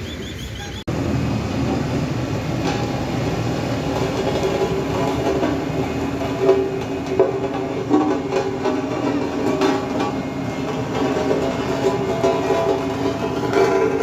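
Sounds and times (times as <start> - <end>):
diesel engine rumbling: 0.0 - 14.0
light metallic rattling: 2.6 - 14.0.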